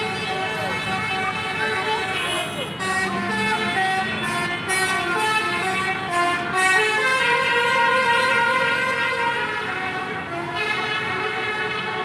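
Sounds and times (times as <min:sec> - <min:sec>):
bus musical horn playing tune: 0:01.0 - 0:12.0.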